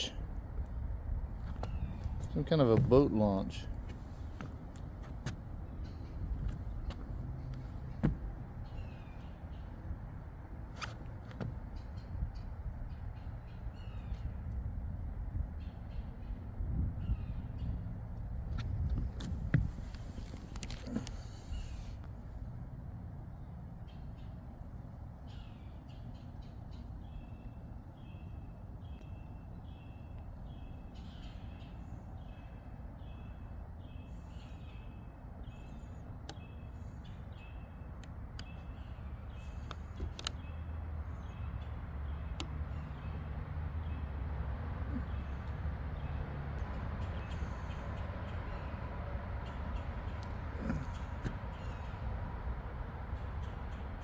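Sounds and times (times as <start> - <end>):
low rumble of highway traffic: 0.0 - 54.0.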